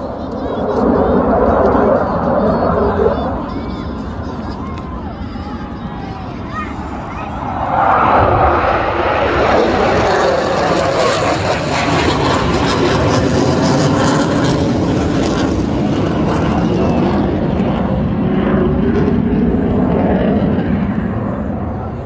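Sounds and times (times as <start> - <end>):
aircraft roaring past: 0.0 - 22.0.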